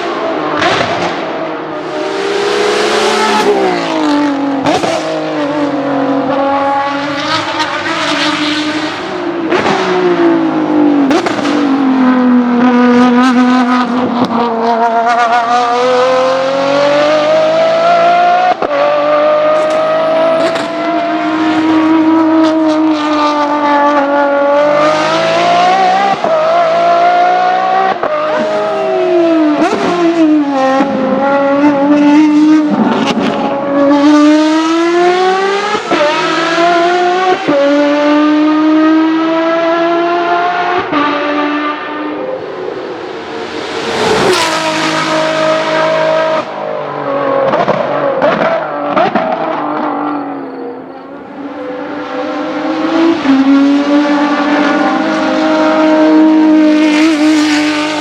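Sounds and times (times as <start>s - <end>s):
race car engines accelerating: 0.0s - 58.0s.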